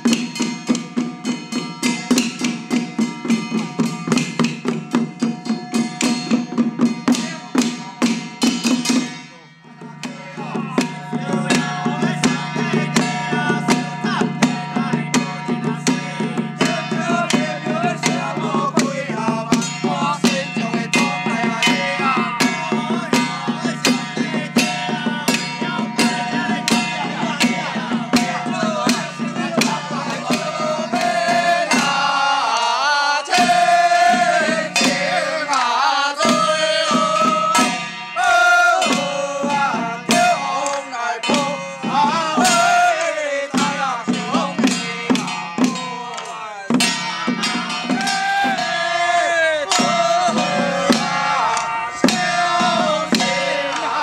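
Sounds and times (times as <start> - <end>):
hand drums beaten: 0.0 - 54.0.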